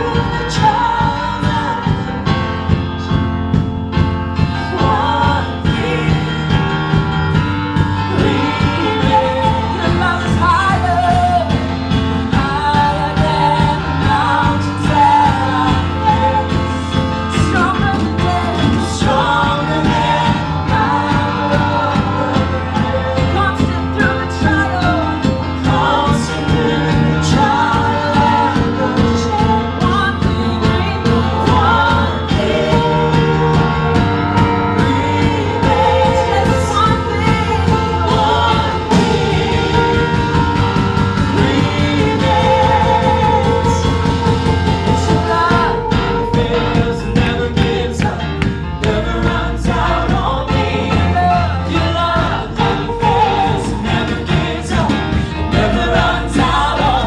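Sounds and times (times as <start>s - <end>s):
worship band with singing: 0.0s - 57.0s.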